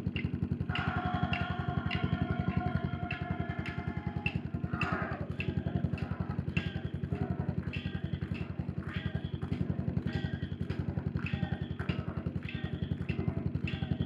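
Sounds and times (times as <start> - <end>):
motorcycle engine running: 0.0 - 14.0
steady mid-pitched hum: 0.0 - 14.0.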